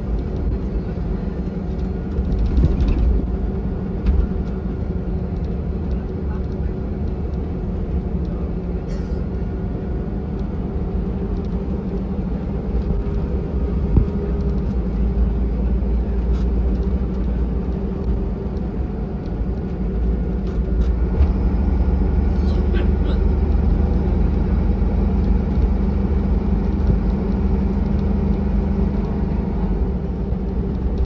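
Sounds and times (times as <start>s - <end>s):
bus diesel engine drone: 0.0s - 31.0s
road rumble: 0.0s - 31.0s.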